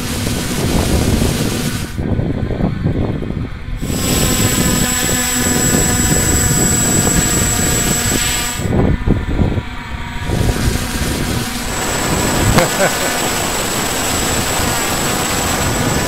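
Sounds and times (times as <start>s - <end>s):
drone propellers buzzing: 0.0s - 16.0s
wind rumble on microphone: 0.0s - 16.0s.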